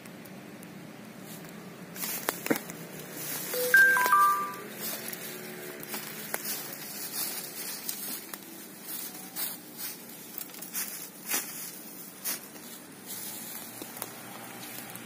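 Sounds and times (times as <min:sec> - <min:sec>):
dry leaves rustling and crackling: 0:01.2 - 0:15.0.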